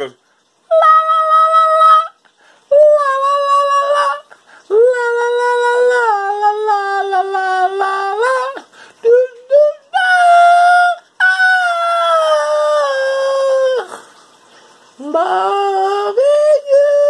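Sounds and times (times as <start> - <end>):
man singing in falsetto: 0.7 - 14.0, 15.0 - 17.0.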